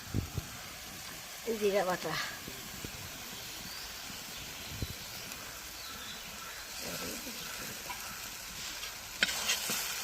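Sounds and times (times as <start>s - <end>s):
onions sizzling in a pan: 0.0s - 10.0s.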